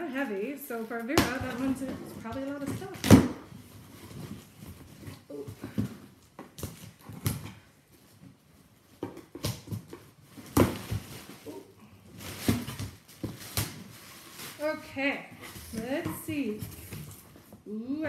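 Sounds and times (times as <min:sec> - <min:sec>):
plastic packing crackling: 0:00.0 - 0:17.4.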